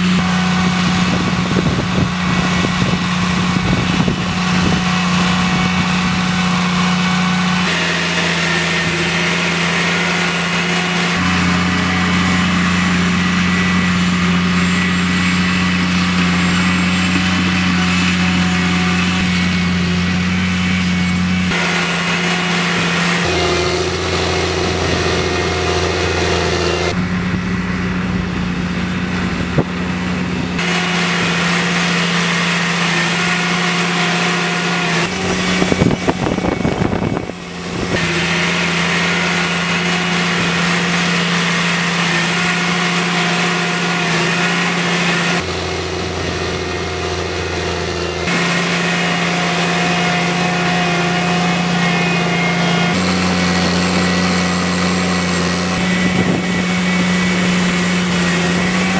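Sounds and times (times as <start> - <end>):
heavy engine running: 0.0 - 58.9.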